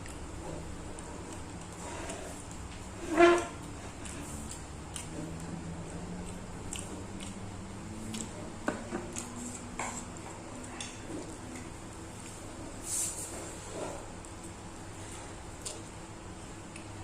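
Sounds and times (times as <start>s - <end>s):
person chewing with wet smacks: 0.0s - 3.0s, 3.6s - 12.5s, 14.0s - 17.0s.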